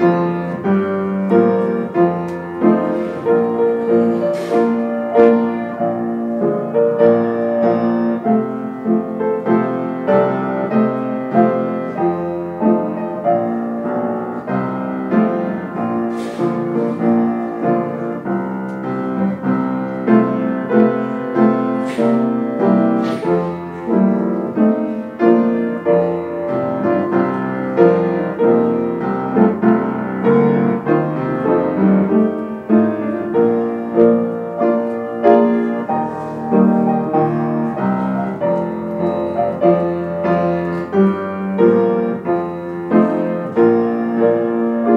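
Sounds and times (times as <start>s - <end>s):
slow piano music: 0.0s - 44.9s.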